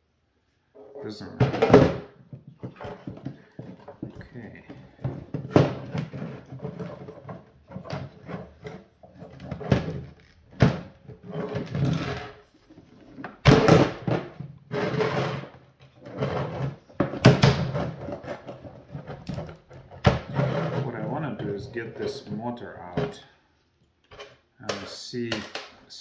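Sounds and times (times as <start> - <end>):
plastic parts scraping and rubbing: 0.9 - 23.3.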